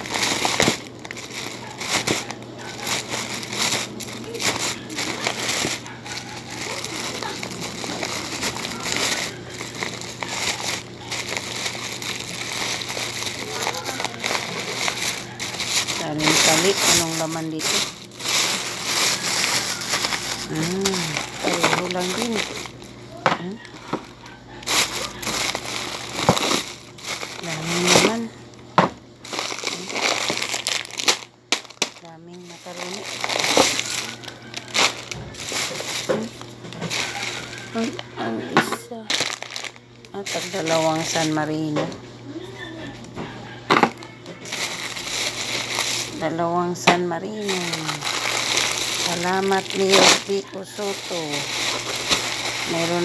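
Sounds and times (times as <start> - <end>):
plastic bag crinkling: 0.0 - 42.0, 43.7 - 53.0.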